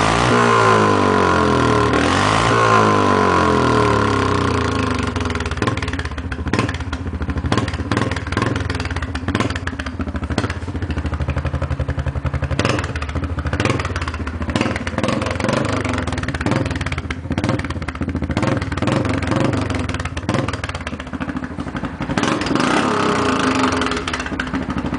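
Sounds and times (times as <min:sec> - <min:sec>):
atv engine revving: 0:00.0 - 0:24.9.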